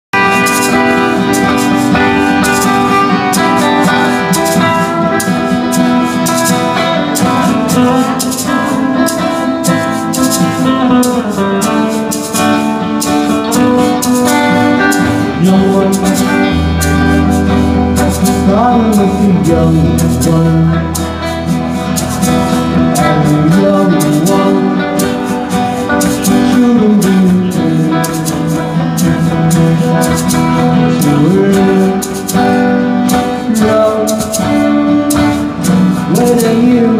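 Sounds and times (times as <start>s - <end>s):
live band playing pop song: 0.1s - 36.9s.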